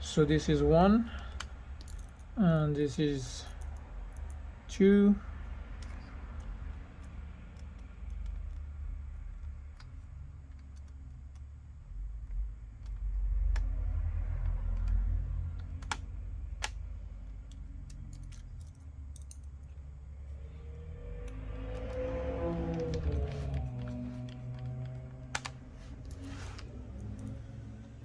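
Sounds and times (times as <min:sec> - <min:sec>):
low handling rumble: 0:00.0 - 0:28.0.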